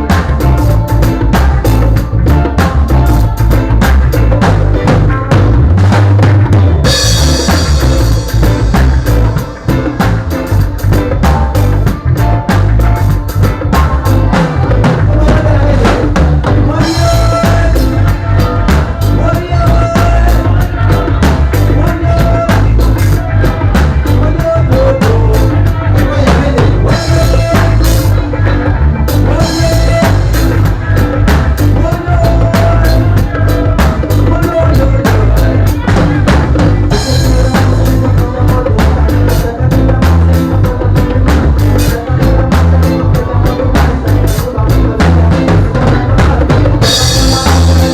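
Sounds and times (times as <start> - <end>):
bass line: 0.0 - 47.9
drum kit beat: 0.0 - 47.9.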